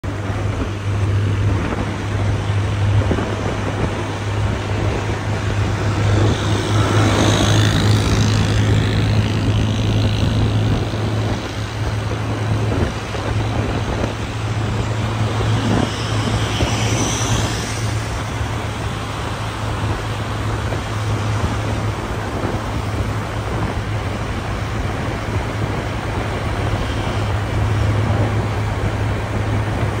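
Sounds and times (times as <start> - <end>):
motorcycle engine drone: 0.0 - 30.0
surrounding traffic: 0.0 - 30.0
wind and road noise: 0.0 - 30.0.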